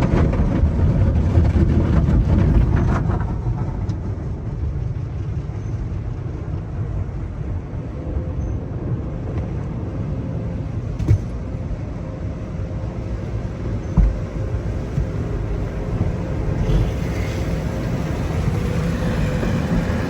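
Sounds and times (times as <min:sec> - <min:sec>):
car wash equipment rumbling: 0:00.0 - 0:20.0.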